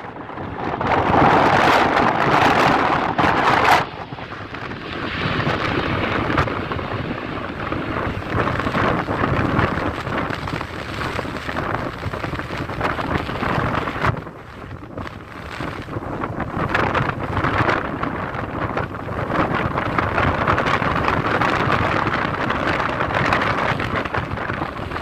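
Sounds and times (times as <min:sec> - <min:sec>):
jet engines rumbling: 0:00.0 - 0:25.0
wind buffeting microphone: 0:00.0 - 0:25.0.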